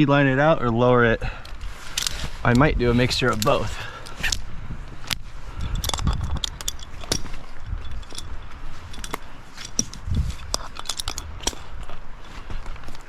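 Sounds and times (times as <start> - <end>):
wind rumble on microphone: 0.6 - 13.0
climbing gear clicking and clinking: 1.2 - 13.0.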